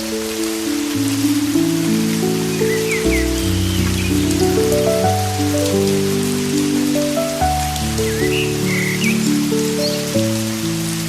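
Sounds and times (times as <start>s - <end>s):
soft music with held chords: 0.0s - 11.0s
steady rain: 0.0s - 11.0s.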